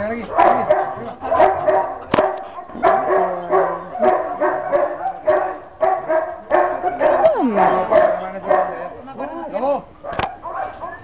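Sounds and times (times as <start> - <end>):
dog barking: 0.2 - 9.0, 10.0 - 11.0.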